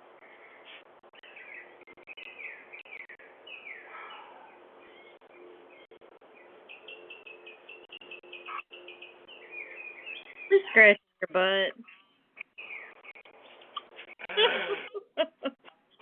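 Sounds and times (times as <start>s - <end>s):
faint steady hum: 0.0s - 15.6s
small birds chirping: 0.1s - 14.2s.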